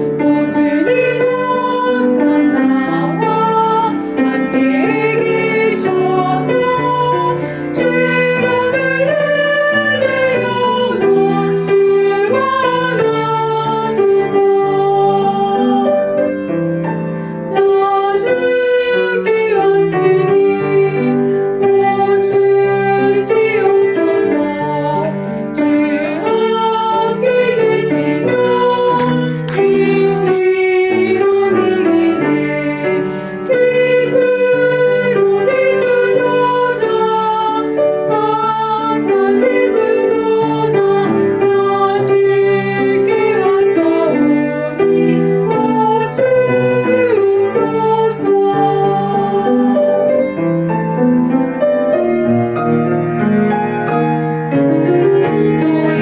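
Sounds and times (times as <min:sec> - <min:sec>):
soprano singing sacred song: 0:00.0 - 0:16.3, 0:17.5 - 0:50.2, 0:55.6 - 0:56.0
piano accompaniment: 0:00.0 - 0:56.0.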